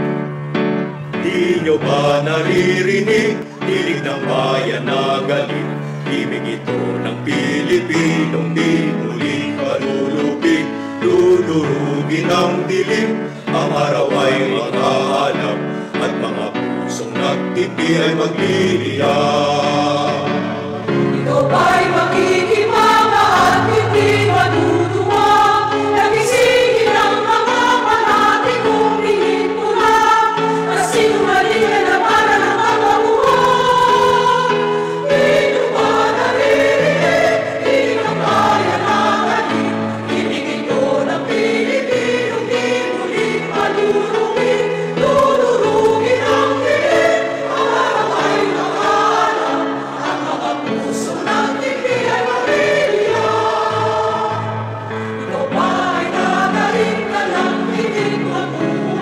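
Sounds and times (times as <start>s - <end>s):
choir singing: 0.0s - 59.0s
held accompaniment chords: 0.0s - 59.0s.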